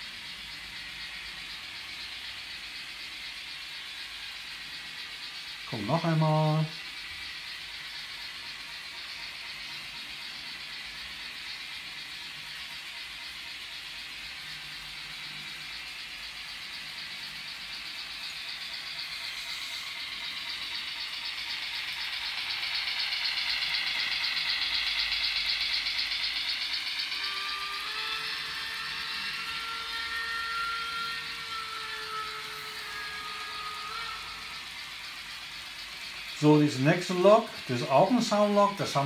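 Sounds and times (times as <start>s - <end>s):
model train motor whirring: 0.0s - 39.0s
steady whining tones: 0.0s - 39.0s.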